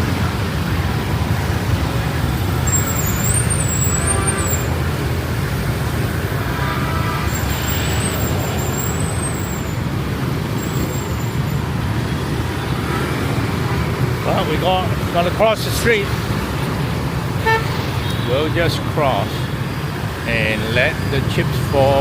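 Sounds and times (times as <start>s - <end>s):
motorbike engines passing: 0.0s - 22.0s.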